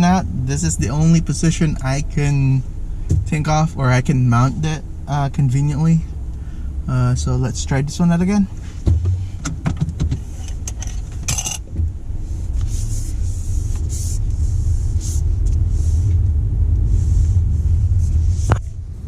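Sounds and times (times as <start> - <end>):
car interior engine and road rumble: 0.0 - 19.0.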